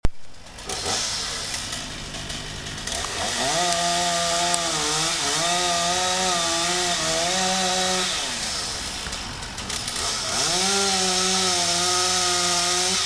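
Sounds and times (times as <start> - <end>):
chainsaw cutting wood: 0.5 - 13.0.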